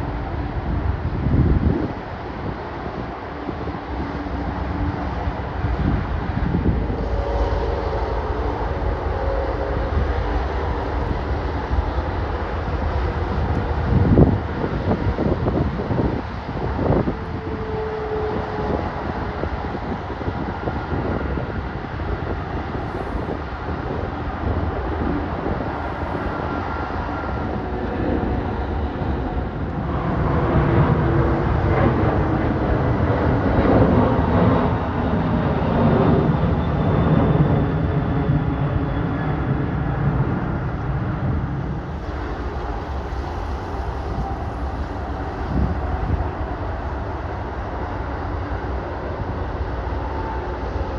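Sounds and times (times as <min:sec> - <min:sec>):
jet airliner engine rumble: 0:00.0 - 0:50.9.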